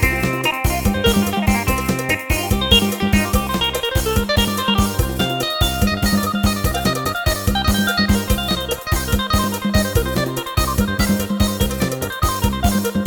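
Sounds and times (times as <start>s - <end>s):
fast drum beat: 0.0s - 13.0s
plucked string lead melody: 0.0s - 13.0s.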